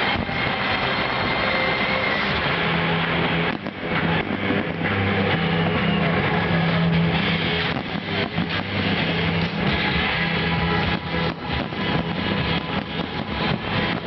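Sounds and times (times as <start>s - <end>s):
fireworks bangs and crackles: 0.0s - 14.0s
loud rushing noise: 0.0s - 14.0s
steady low note: 0.0s - 14.0s.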